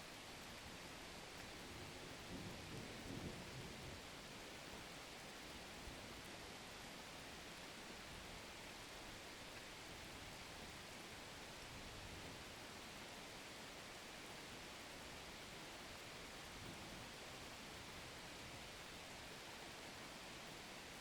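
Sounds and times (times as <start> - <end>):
soft hiss of rain: 0.0 - 21.0.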